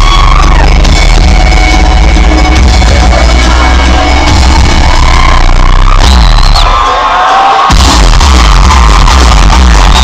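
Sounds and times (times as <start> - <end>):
heavy bass: 0.0 - 10.0
loud electronic dance music: 0.0 - 10.0.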